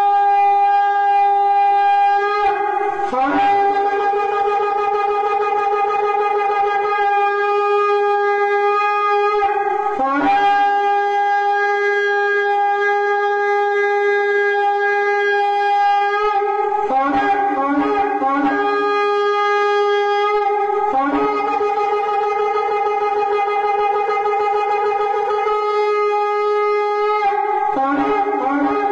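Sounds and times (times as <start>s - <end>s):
horn blasts: 0.0s - 28.9s.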